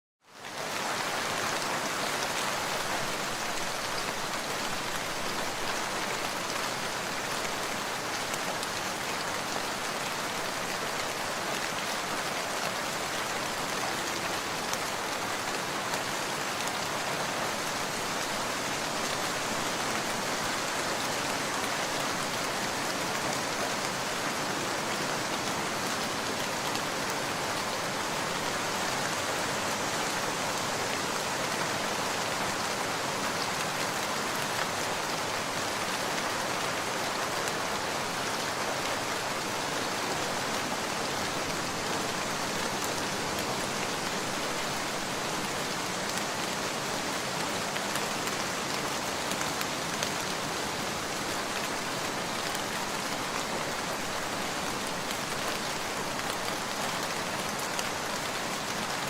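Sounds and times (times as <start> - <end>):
steady rain falling: 0.2 - 59.0.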